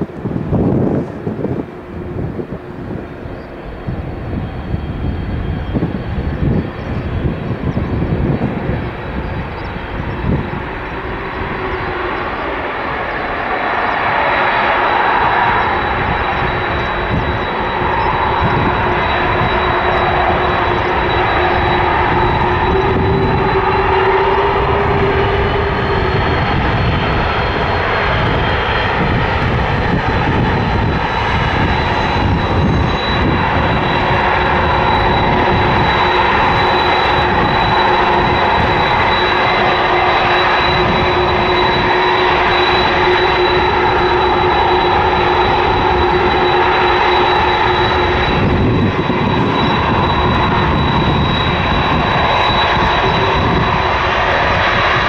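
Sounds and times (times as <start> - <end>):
aircraft engines whining: 0.0 - 55.0.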